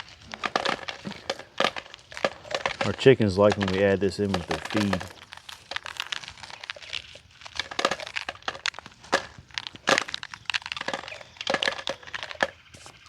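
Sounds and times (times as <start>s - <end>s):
corn kernels crackling off cob: 0.0s - 13.0s
loose kernels pattering down: 0.0s - 13.0s.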